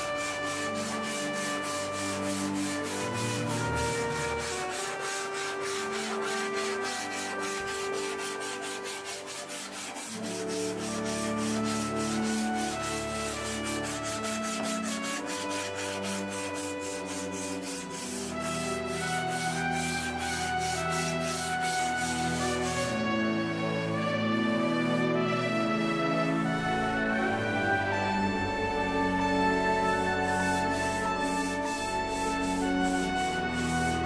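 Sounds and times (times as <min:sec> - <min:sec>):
sanding block rubbing metal: 0:00.0 - 0:23.0, 0:29.6 - 0:34.0
background music with steady beat: 0:00.0 - 0:34.0.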